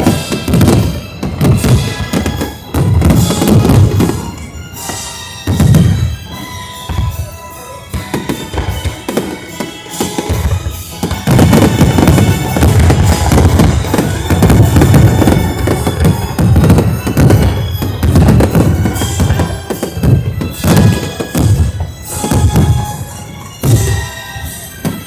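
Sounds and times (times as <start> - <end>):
fireworks bangs and crackles: 0.0 - 25.0
music: 0.0 - 25.0.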